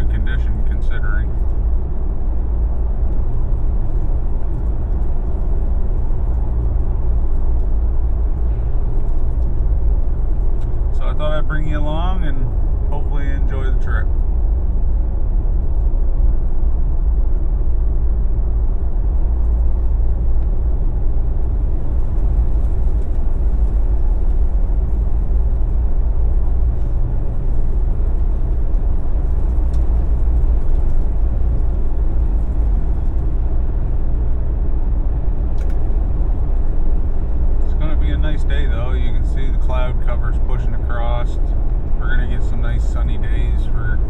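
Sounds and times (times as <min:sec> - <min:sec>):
car engine and tyre rumble: 0:00.0 - 0:44.0.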